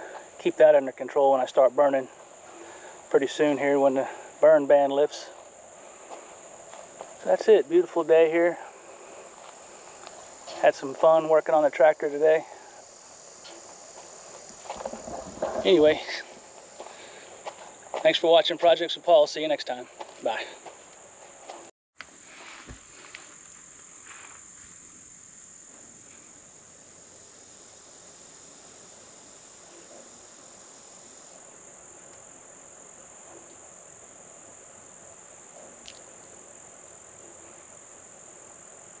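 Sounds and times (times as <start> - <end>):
insects chorusing: 0.0 - 39.0.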